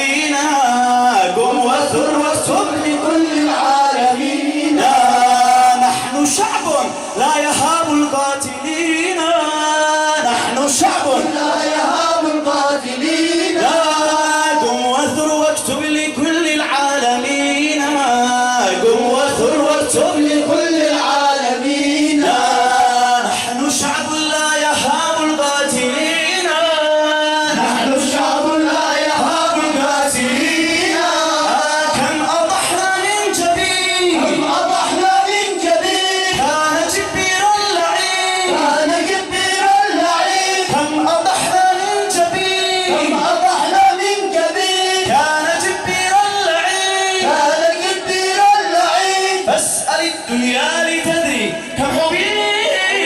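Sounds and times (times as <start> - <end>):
men singing: 0.0 - 53.0.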